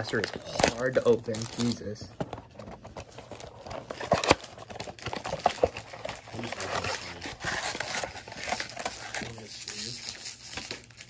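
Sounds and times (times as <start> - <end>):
cardboard scraping and rustling: 0.0 - 10.9.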